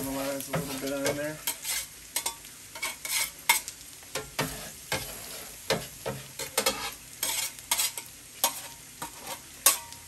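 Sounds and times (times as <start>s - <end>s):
chicken sizzling on griddle: 0.0s - 10.0s
metal spatula scraping: 0.0s - 10.0s.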